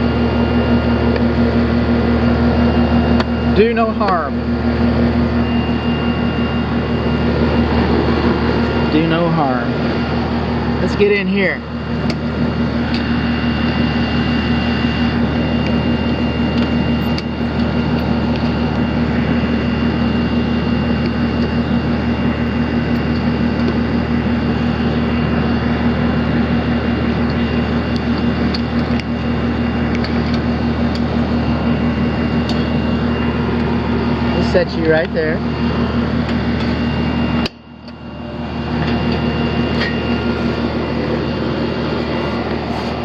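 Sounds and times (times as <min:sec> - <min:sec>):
air conditioner humming: 0:00.0 - 0:43.0.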